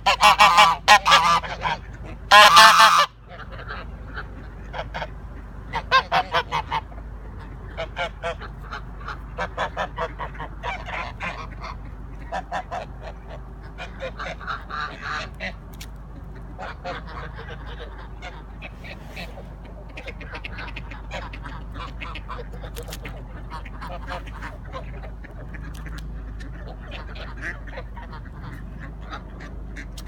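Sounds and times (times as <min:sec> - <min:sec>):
geese honking: 0:00.0 - 0:30.0.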